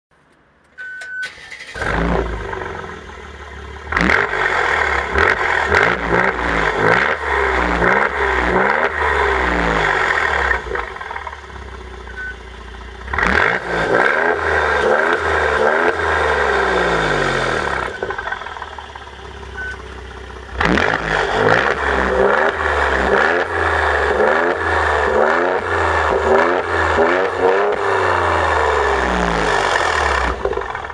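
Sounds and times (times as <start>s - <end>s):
car engine starting and idling: 0.2s - 30.9s
car engine revving: 1.3s - 30.9s.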